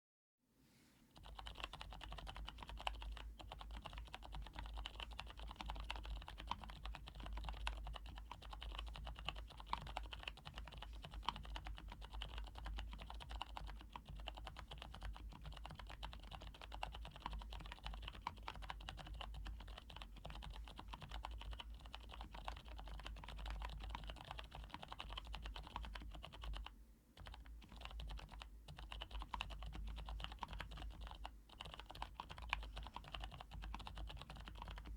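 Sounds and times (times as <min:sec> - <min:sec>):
fast mechanical keyboard typing: 0:01.2 - 0:34.9.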